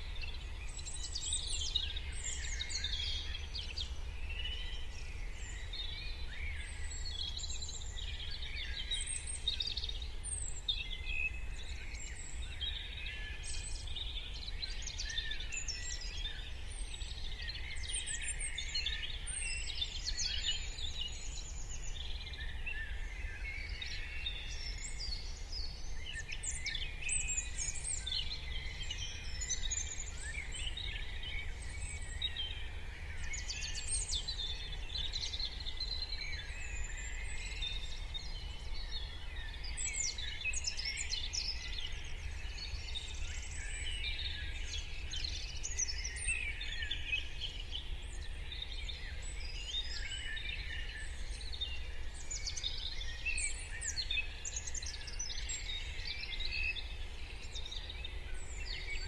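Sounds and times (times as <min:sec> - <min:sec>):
songbirds singing and chirping: 0:00.0 - 0:59.0.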